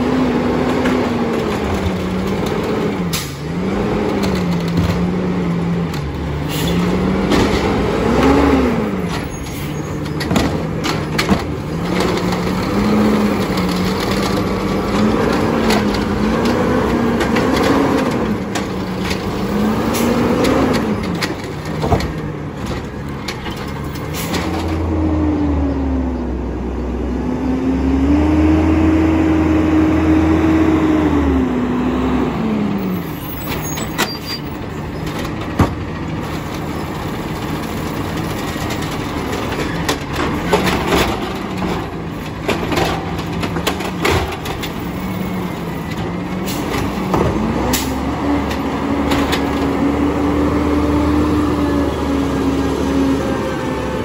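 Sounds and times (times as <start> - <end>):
garbage truck engine revving: 0.0 - 54.0.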